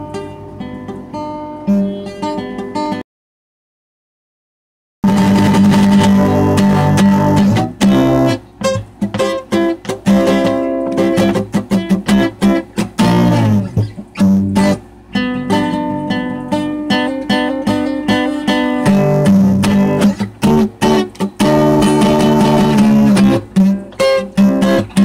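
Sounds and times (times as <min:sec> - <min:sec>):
acoustic guitar strumming chords: 0:00.0 - 0:03.0, 0:05.0 - 0:25.0.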